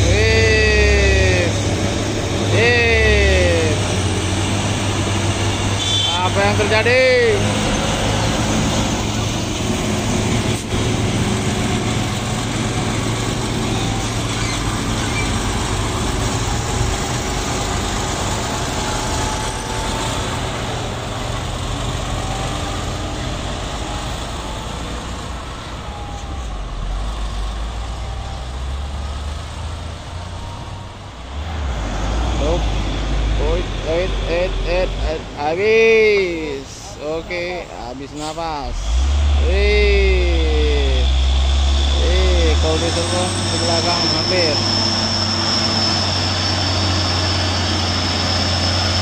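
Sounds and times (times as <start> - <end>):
diesel trucks passing: 0.0 - 49.0
road noise: 0.0 - 49.0.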